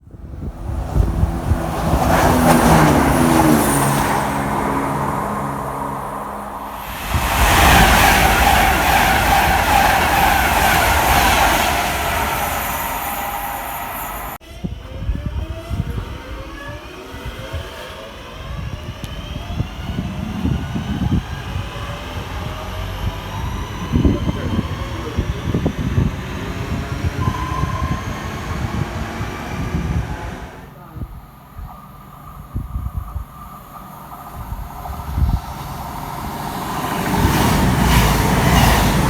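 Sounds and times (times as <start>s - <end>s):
train passing at speed: 0.0s - 39.0s.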